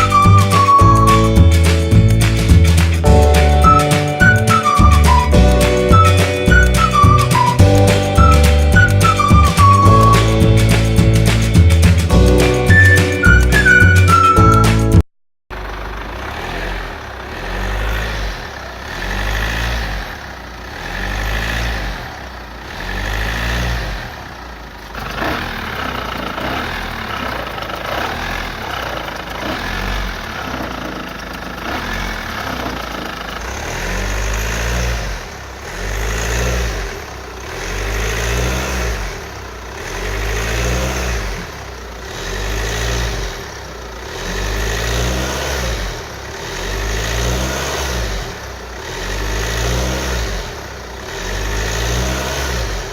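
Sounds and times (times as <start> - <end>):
car engine running: 0.0 - 14.9, 15.5 - 52.9.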